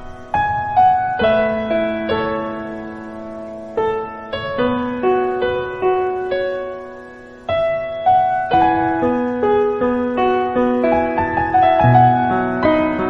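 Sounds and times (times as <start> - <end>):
soft slow piano melody: 0.0 - 13.0.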